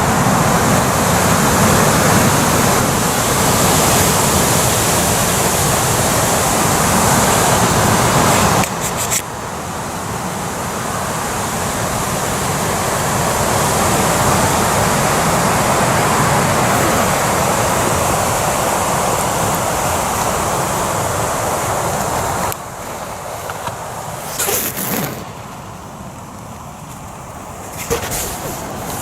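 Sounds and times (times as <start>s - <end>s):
rain falling on a tarp: 0.0s - 29.0s.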